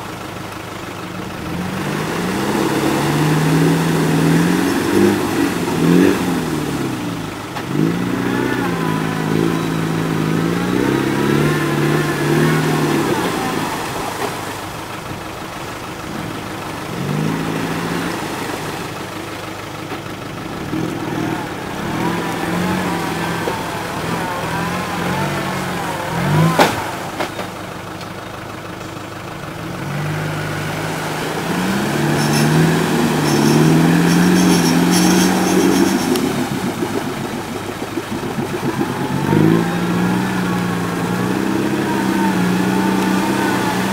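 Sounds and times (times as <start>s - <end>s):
engine revs rising and falling: 1.3s - 15.2s, 15.9s - 19.5s, 20.1s - 27.6s, 29.5s - 43.9s.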